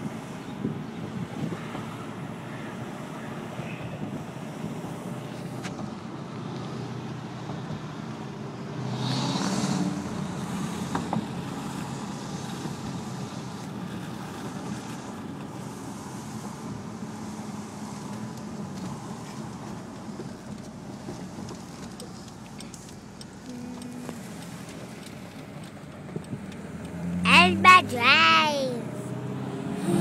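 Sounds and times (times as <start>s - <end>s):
car engine in cabin: 0.0s - 30.0s
road noise: 0.0s - 30.0s.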